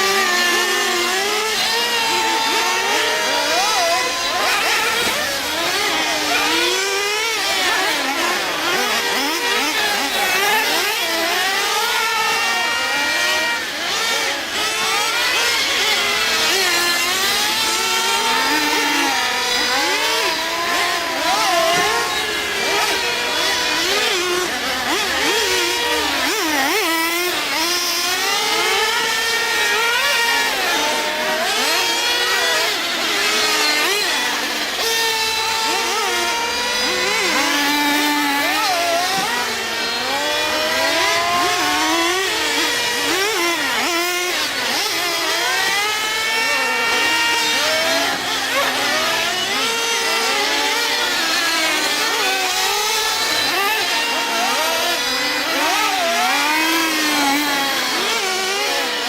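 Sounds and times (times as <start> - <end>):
small engines whining and revving: 0.0 - 59.0.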